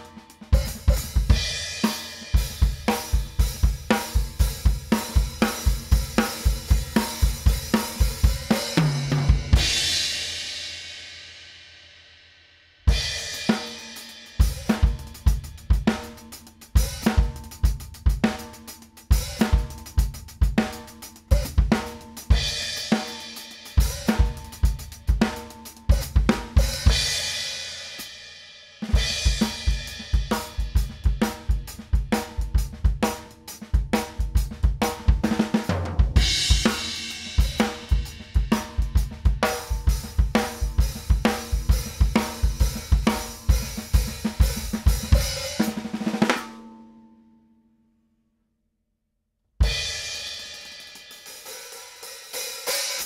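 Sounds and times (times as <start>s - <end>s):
drum kit groove with sticks: 0.0s - 46.7s, 49.6s - 53.0s.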